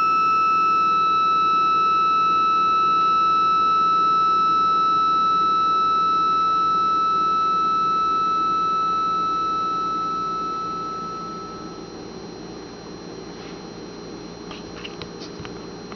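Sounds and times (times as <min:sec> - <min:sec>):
engine high tone: 0:00.0 - 0:13.2.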